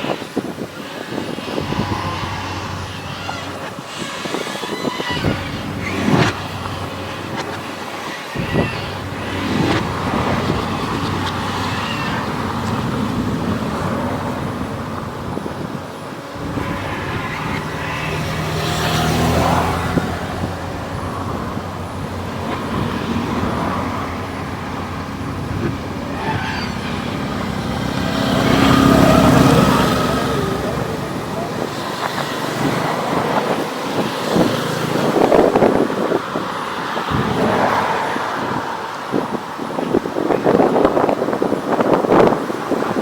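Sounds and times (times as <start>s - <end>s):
road traffic engine hum: 0.0s - 43.0s.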